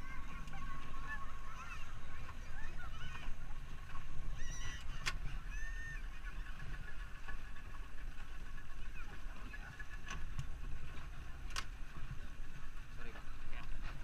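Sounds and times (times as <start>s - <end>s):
boat engine rumble: 0.0s - 14.0s
faint distant voices: 0.0s - 14.0s.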